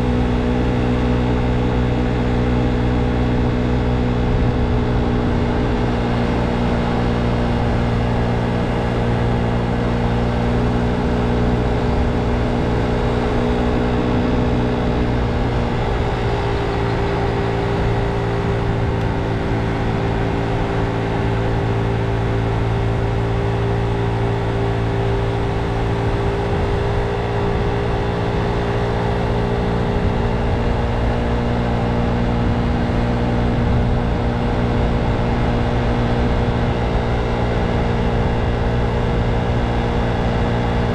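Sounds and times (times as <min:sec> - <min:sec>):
motor scooter engine running: 0:00.0 - 0:40.9.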